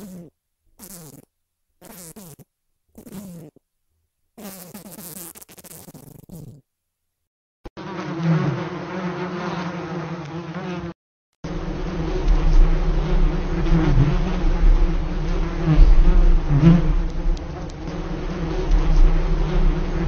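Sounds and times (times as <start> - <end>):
flies buzzing: 0.0 - 3.6, 4.4 - 6.6, 7.7 - 20.0.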